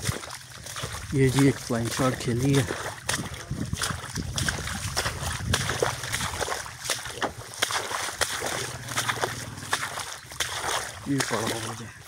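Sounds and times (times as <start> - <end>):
footsteps splashing through mud: 0.0 - 12.0.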